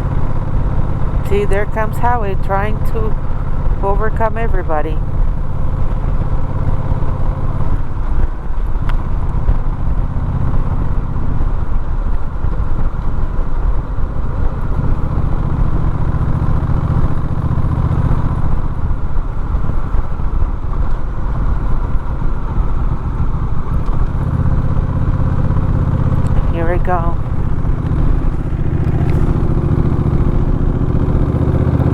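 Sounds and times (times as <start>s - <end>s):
road and wind noise: 0.0s - 31.9s
vehicle engine running: 0.0s - 31.9s.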